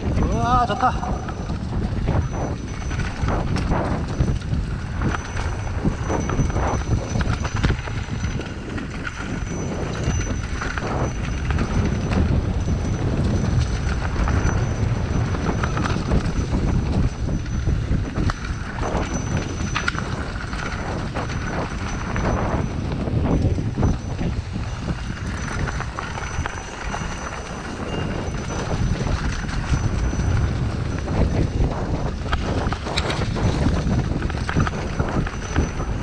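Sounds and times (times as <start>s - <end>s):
bike rattling over bumps: 0.0s - 36.0s
bike tyres rumbling on dirt: 0.0s - 36.0s.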